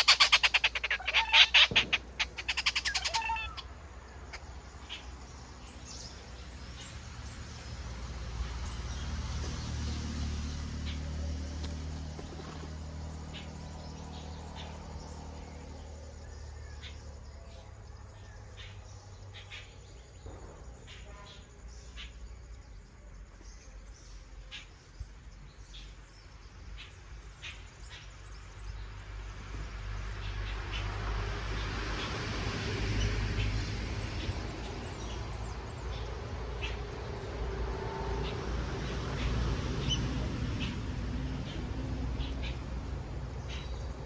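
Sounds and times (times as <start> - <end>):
birds chirping: 0.0 - 28.9, 31.6 - 44.0
vehicle engine hum: 0.0 - 44.0.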